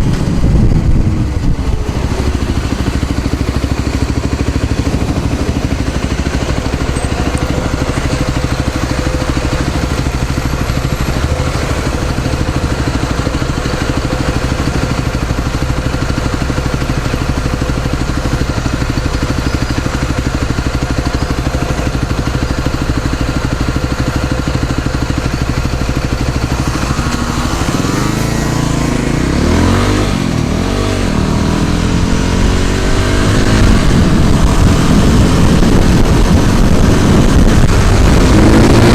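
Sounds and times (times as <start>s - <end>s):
motor scooter engine running: 0.0s - 38.9s.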